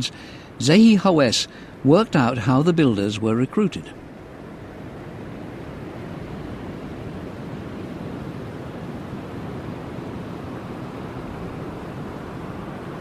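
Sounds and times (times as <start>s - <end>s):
steady wind: 0.0s - 13.0s.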